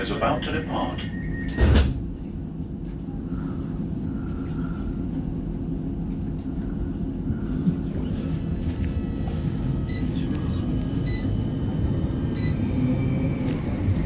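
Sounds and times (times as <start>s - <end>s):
tram low rumble: 0.0s - 14.0s.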